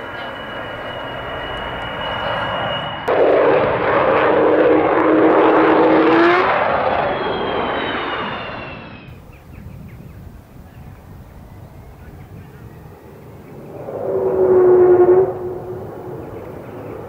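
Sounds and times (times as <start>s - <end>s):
jet aircraft howling wail: 0.0s - 9.3s, 10.3s - 17.0s
jet engine roar: 0.0s - 17.0s.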